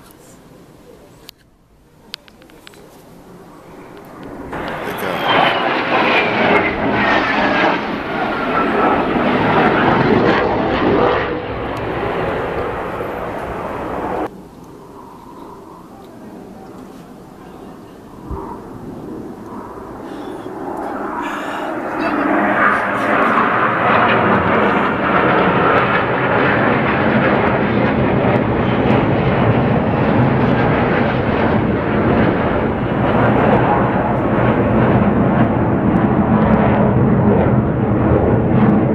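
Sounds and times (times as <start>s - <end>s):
jet engines roaring past: 0.0s - 38.9s
jet whine falling in pitch: 3.3s - 38.9s.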